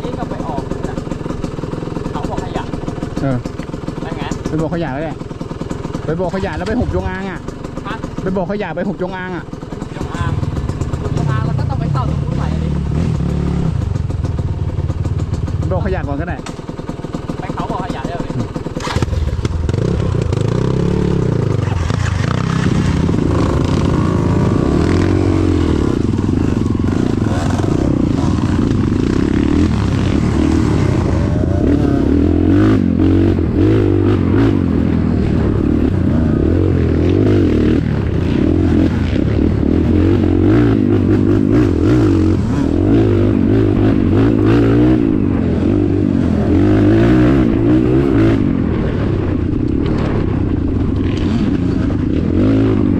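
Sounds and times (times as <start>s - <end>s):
bike rattling over bumps: 0.0s - 52.9s
motorcycle engine revving: 0.0s - 52.9s.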